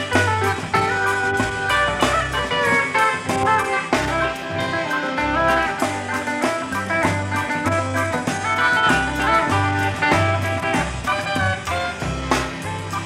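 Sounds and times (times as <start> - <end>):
electric bass: 0.0 - 13.0
pedal steel guitar: 0.0 - 13.0
steady drum beat: 0.0 - 13.0.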